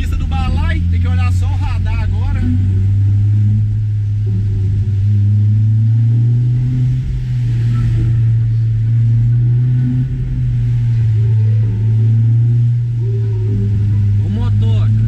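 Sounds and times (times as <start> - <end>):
car engine and road noise drone: 0.0 - 15.0.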